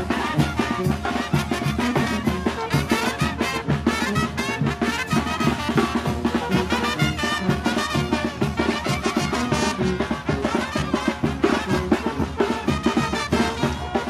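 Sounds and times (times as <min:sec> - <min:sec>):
brass band playing dance tune: 0:00.0 - 0:14.0.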